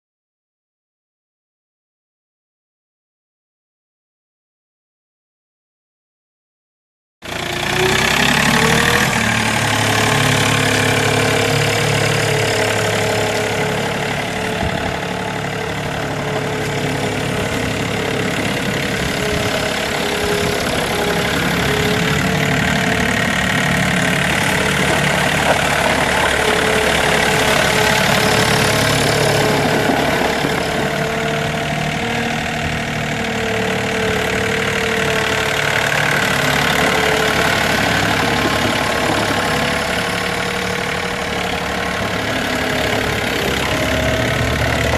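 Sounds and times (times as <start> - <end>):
tractor diesel engine running: 7.2 - 44.9.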